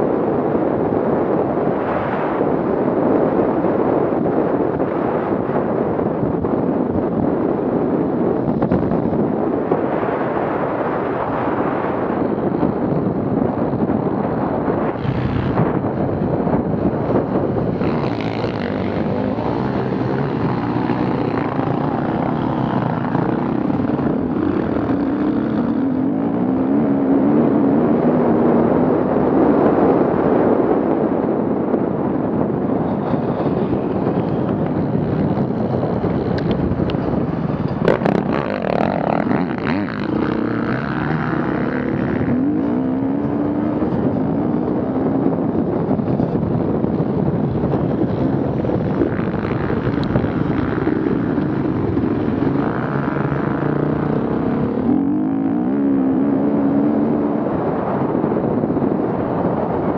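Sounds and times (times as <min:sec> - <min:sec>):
off-road vehicle engines running: 0:00.0 - 0:59.9.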